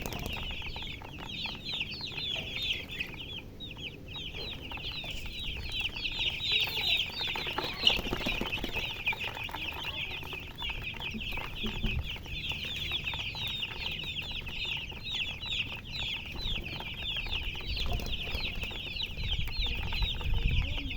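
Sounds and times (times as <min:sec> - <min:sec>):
baby chicks chirping: 0:00.0 - 0:20.9.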